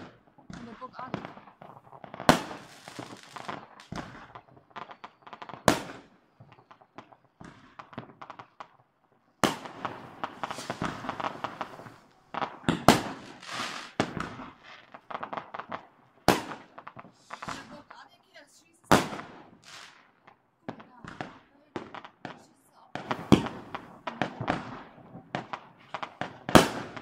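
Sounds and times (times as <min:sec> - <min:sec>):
firecrackers crackling: 0:00.0 - 0:27.0
firework bangs: 0:00.0 - 0:27.0.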